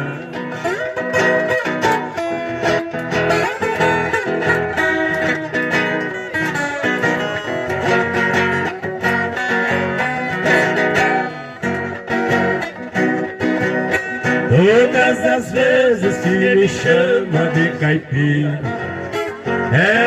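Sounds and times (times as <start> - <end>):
plucked acoustic guitar melody: 0.0 - 20.0.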